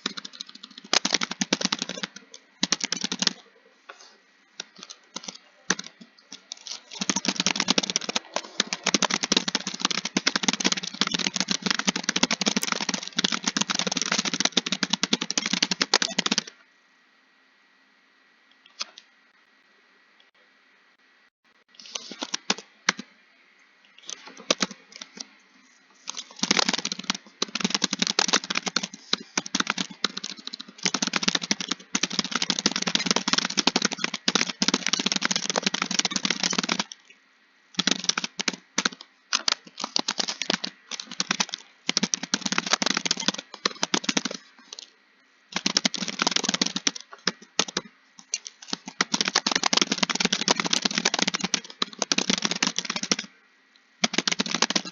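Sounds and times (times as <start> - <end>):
keyboard typing: 0.0 - 16.5, 21.8 - 23.1, 24.0 - 25.3, 26.0 - 37.1, 37.8 - 44.9, 45.5 - 53.3, 54.0 - 54.9.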